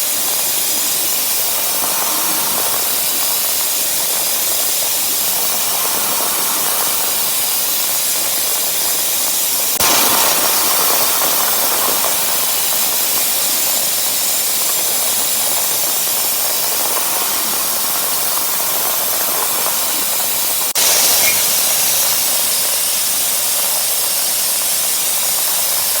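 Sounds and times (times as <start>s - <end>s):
machine tool cutting hiss: 0.0s - 26.0s.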